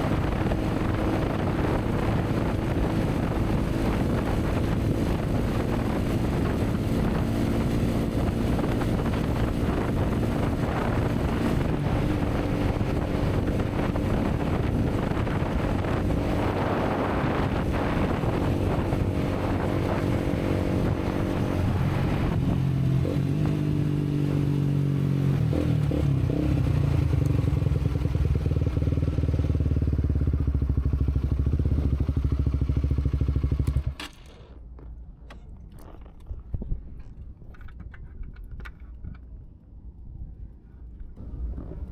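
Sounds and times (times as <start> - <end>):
wind noise on microphone: 0.0 - 33.9, 34.6 - 41.9
motorcycle engine: 0.0 - 34.9, 41.2 - 41.9.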